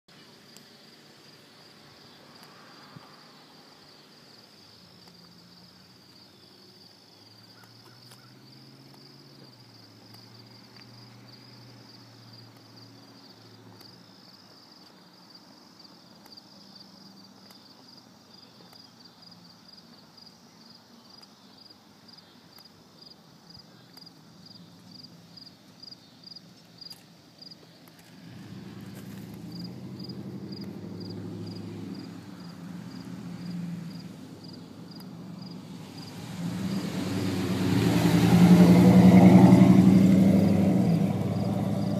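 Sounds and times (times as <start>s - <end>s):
crickets chirping: 0.1s - 41.9s.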